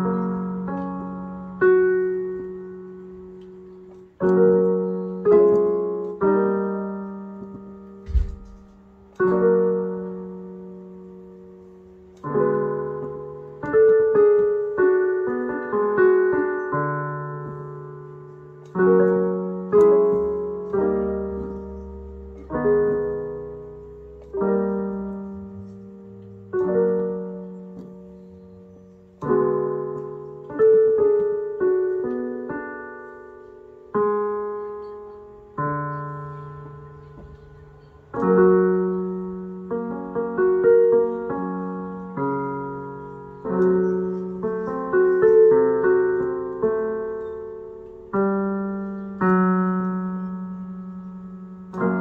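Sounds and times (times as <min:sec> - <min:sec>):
slow piano tune: 0:00.0 - 0:52.0.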